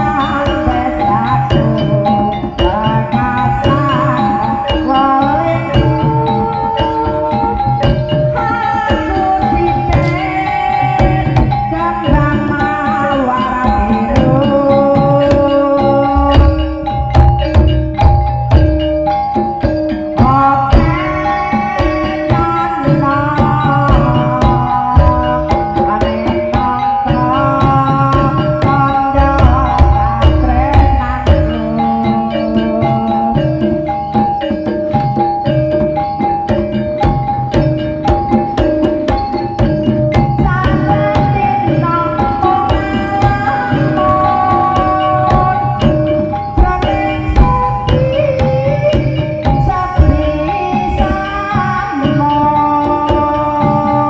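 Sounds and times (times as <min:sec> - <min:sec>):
hand drums beating fast rhythm: 0:00.0 - 0:54.0
sustained melodic tones: 0:00.0 - 0:54.0.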